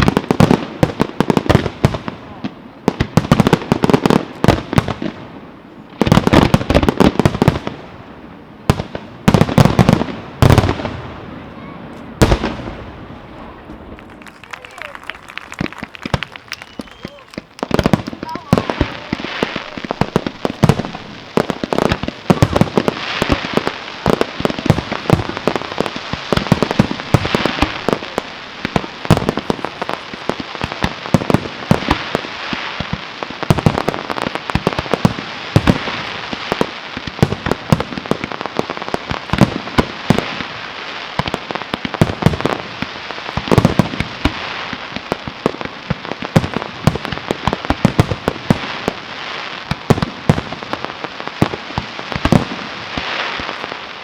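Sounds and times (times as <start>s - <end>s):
heavy firework booms: 0.0s - 14.1s, 15.6s - 54.0s
fireworks bursting and crackling: 0.0s - 54.0s.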